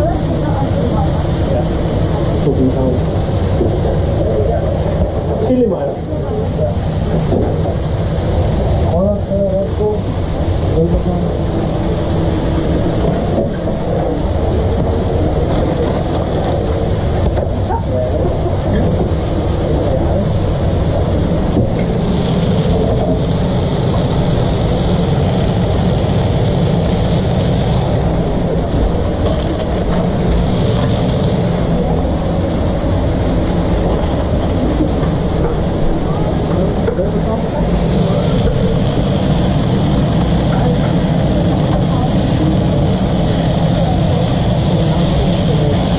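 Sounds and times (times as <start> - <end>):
kitchen equipment running: 0.0 - 45.9
faint voices: 8.8 - 45.9.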